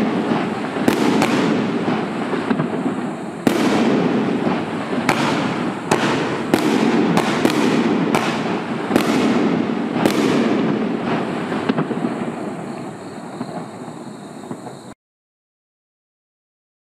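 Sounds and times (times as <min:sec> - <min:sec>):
firework bangs: 0:00.0 - 0:15.0
steady noise: 0:00.0 - 0:15.0.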